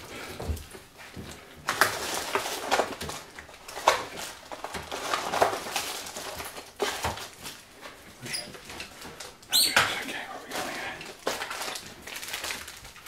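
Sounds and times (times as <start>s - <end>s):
plastic and cable rustling: 0.0s - 13.0s.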